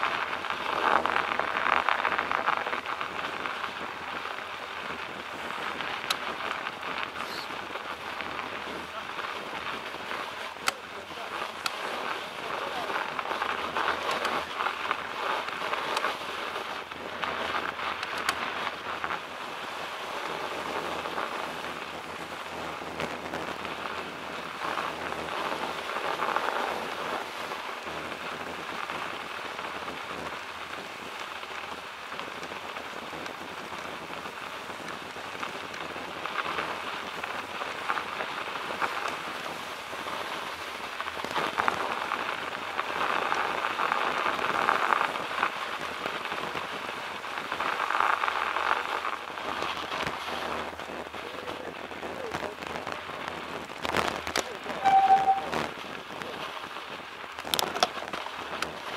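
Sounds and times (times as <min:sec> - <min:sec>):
bicycle tyres rolling over snow: 0:00.0 - 0:58.9.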